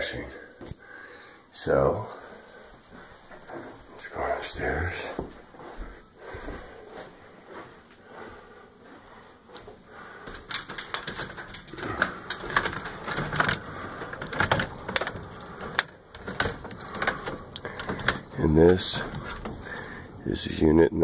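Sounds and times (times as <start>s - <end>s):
footsteps going up stairs: 2.1s - 20.0s.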